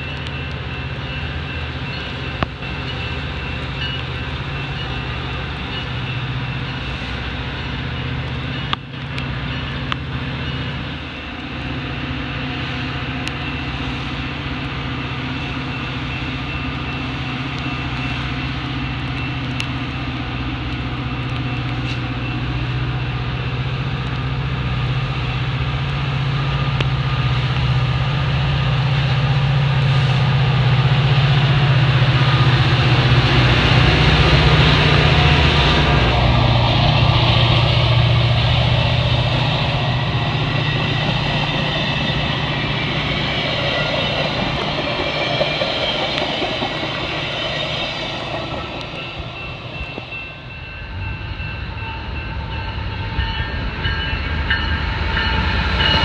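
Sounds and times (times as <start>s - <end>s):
crossing bell ringing: 0.0s - 23.4s, 31.4s - 56.0s
diesel locomotive engine drone: 0.0s - 56.0s.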